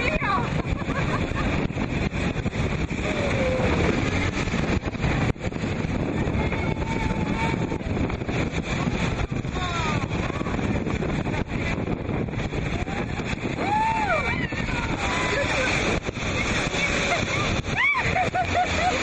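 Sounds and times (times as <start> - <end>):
churning water: 0.0 - 19.0
motorboat engine: 0.0 - 19.0.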